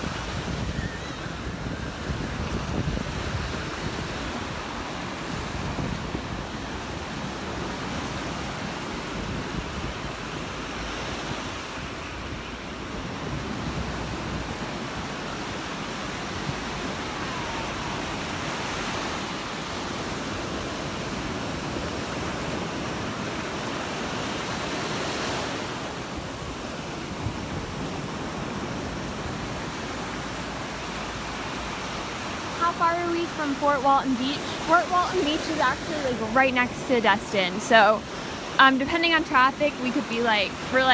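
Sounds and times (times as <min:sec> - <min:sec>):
surf washing onto beach: 0:00.0 - 0:40.9
wind buffeting microphone: 0:00.0 - 0:40.9.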